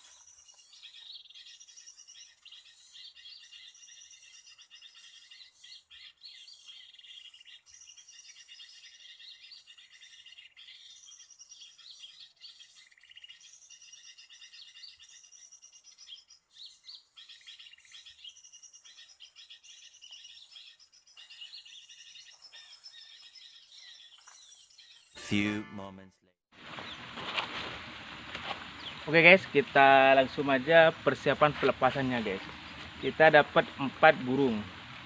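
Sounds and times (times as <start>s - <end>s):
small birds chirping: 0.0s - 25.3s, 26.6s - 35.0s.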